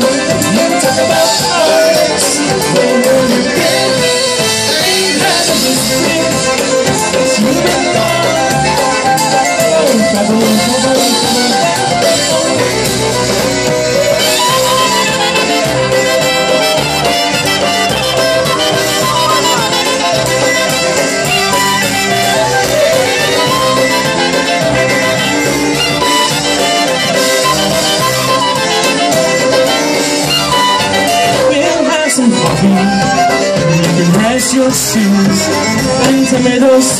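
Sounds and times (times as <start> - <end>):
bowed fiddle: 0.0 - 36.8
polka band playing: 0.0 - 36.9
trumpet: 0.0 - 36.9.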